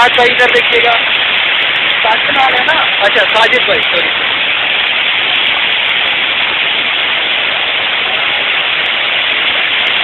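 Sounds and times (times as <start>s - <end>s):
river water rushing through gates: 0.0s - 10.0s.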